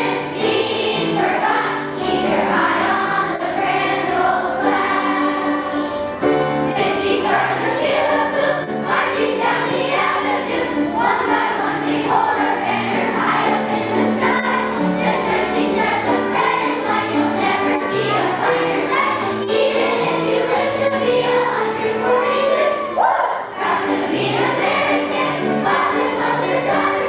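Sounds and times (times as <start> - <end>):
children's choir singing: 0.0 - 27.0
musical accompaniment: 0.0 - 27.0.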